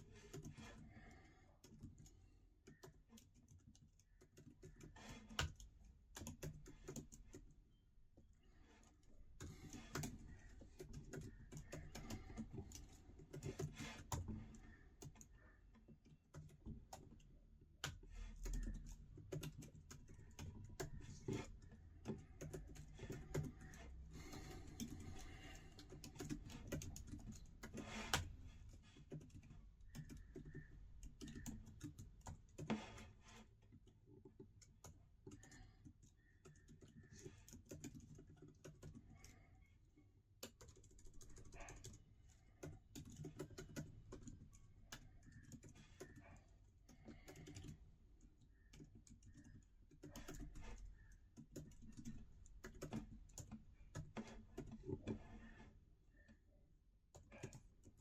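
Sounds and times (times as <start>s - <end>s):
laptop keyboard typing: 0.1s - 39.7s, 40.4s - 56.4s, 57.1s - 58.0s.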